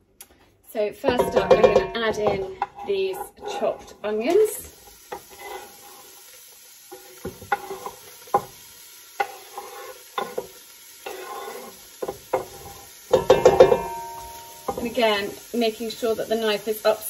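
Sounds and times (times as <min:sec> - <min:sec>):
onions sizzling in hot oil: 0:01.0 - 0:17.0.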